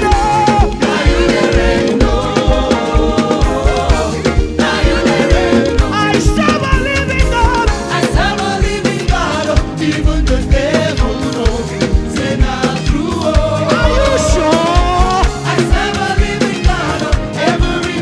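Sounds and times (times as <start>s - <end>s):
upbeat gospel praise music: 0.0s - 18.0s.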